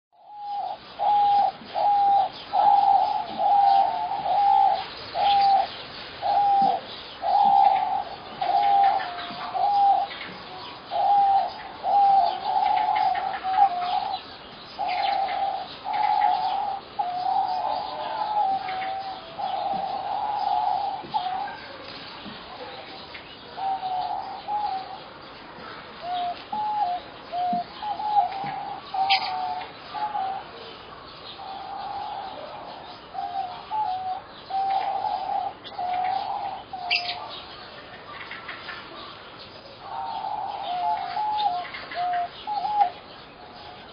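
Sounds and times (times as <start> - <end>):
birds calling short notes: 0.2 - 37.6.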